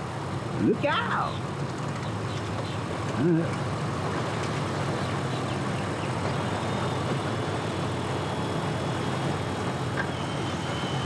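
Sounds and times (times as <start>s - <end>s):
boat motors droning: 0.0s - 11.0s
water wash: 0.0s - 11.0s.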